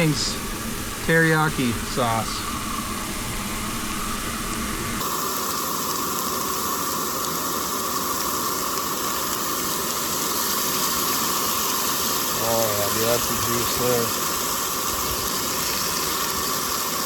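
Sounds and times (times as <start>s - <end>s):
food sizzling in a pan: 1.9s - 17.0s.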